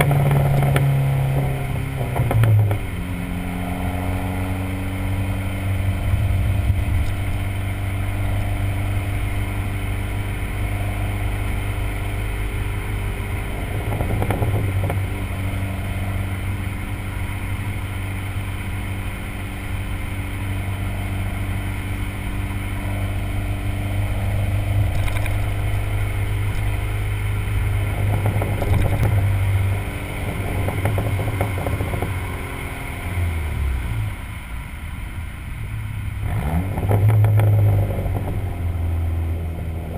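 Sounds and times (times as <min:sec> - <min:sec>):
exhaust crackling: 0:00.0 - 0:39.9
turbocharged car engine running: 0:00.0 - 0:39.9.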